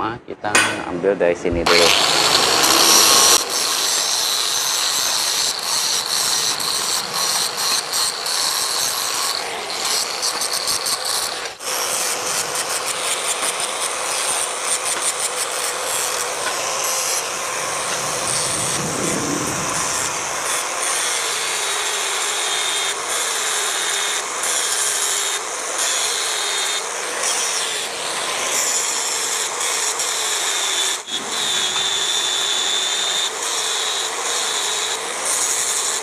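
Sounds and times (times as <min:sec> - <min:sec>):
angle grinder cutting steel: 0:01.5 - 0:36.0.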